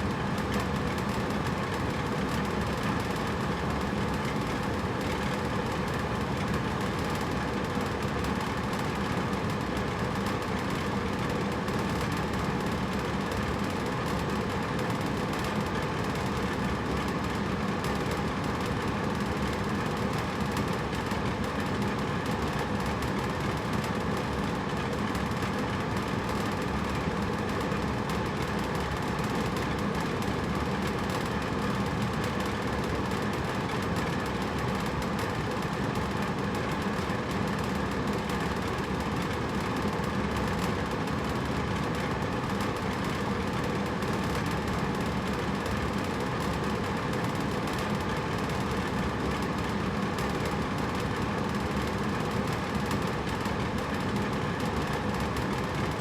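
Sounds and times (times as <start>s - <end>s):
air conditioner running: 0.0s - 56.0s.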